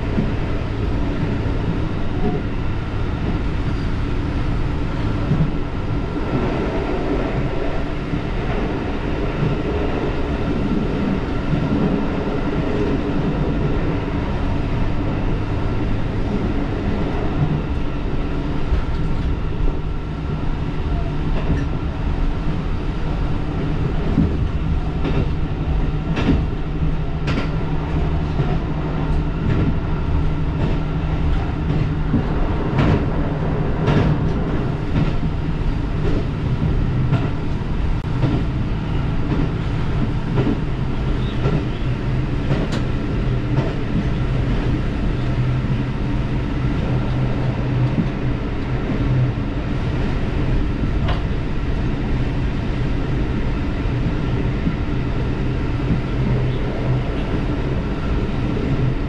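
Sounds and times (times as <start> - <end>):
rolling train wheels: 0.0 - 59.0.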